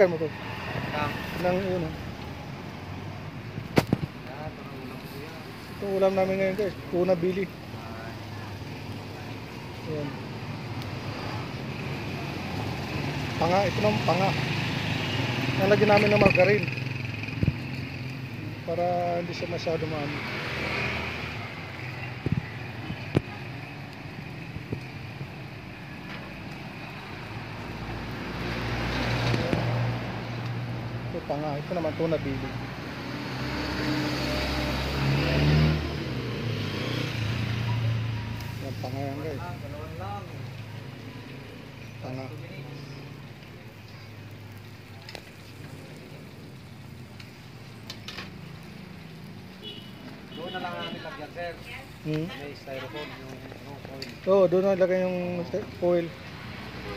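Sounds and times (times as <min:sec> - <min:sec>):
fish sizzling on a grill: 0:00.0 - 0:56.9
sharp crackles and pops: 0:00.4 - 0:56.9.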